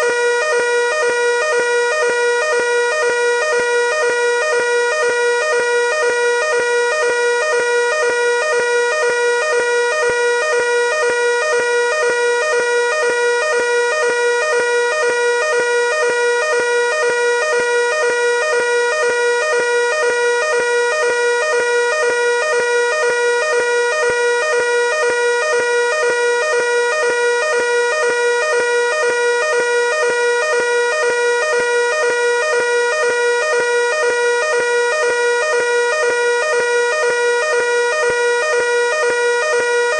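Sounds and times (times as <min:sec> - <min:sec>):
pulsing fire alarm tone: 0:00.0 - 0:39.9.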